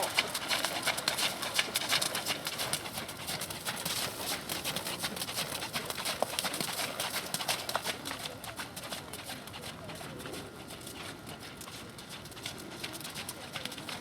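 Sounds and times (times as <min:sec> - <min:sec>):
horse hoofbeats clip-clop: 0:00.0 - 0:14.0.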